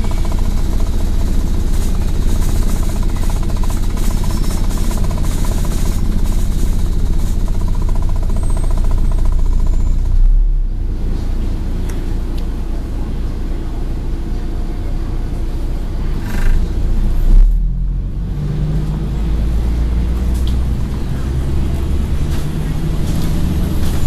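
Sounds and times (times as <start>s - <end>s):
bus diesel engine rumble: 0.0s - 24.0s.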